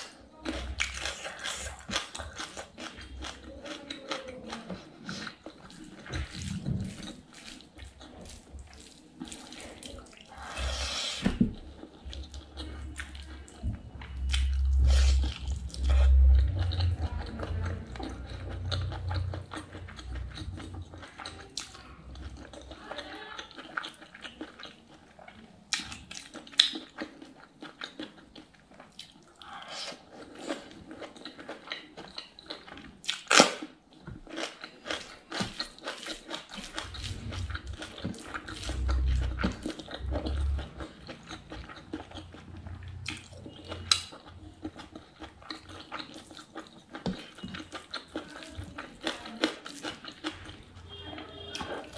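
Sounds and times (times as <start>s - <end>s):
chewing and biting food: 0.0s - 51.9s.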